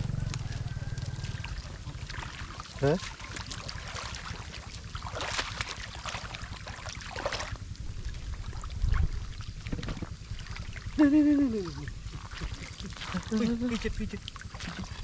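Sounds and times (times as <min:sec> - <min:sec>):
steady low rumble: 0:00.0 - 0:15.0
water splashing and rushing: 0:00.0 - 0:15.0.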